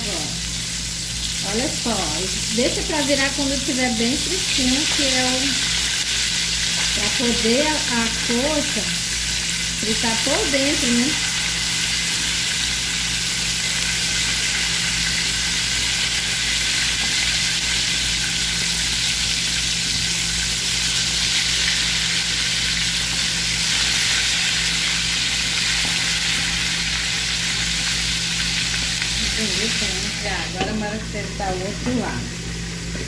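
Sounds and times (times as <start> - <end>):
chicken deep-frying in oil: 0.0 - 31.2.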